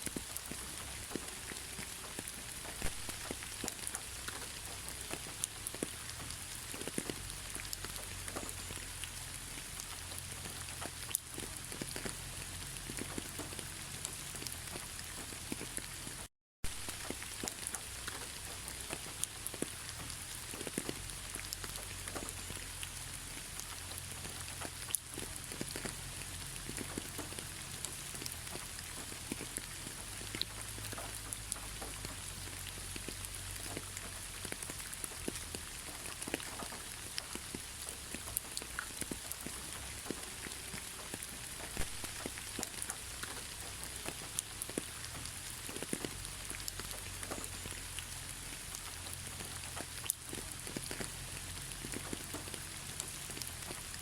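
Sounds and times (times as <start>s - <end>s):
raindrops ticking: 0.0s - 54.0s
steady rainfall: 0.0s - 54.0s.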